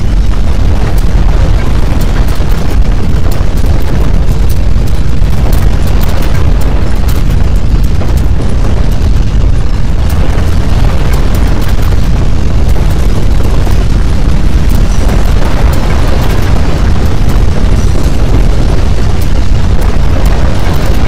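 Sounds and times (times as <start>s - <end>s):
earthquake deep rumble: 0.0s - 21.0s.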